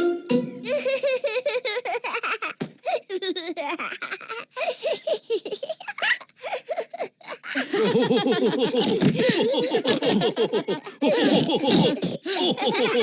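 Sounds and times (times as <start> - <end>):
cartoon voices laughing: 0.7 - 13.0.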